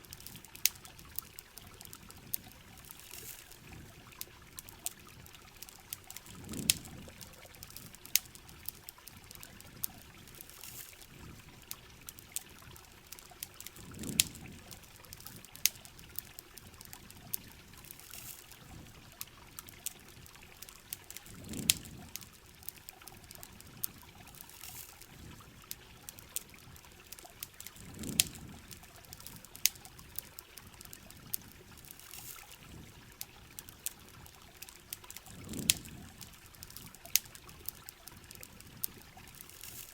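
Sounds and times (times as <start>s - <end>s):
campfire crackles and pops: 0.0s - 39.9s
rain pouring: 0.0s - 39.9s.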